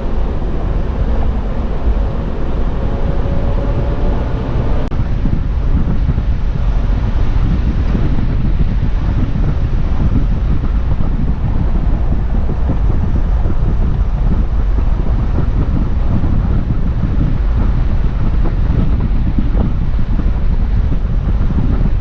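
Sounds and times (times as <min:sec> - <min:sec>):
vehicle driving on dirt track: 0:00.0 - 0:22.0
wind buffeting microphone: 0:00.0 - 0:22.0.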